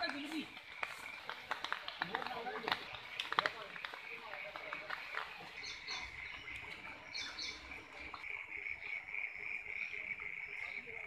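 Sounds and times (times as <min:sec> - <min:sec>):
chorus of calling animals: 0:00.0 - 0:11.0.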